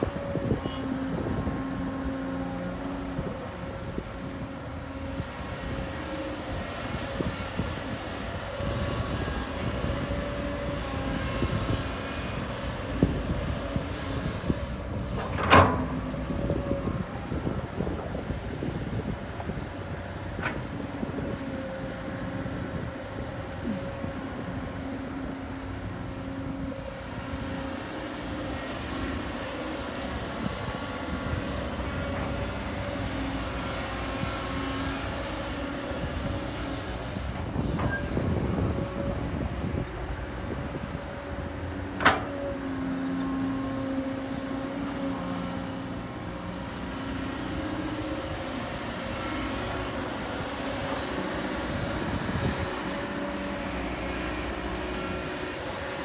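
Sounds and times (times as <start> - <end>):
diesel machinery engine running: 0.0 - 56.0.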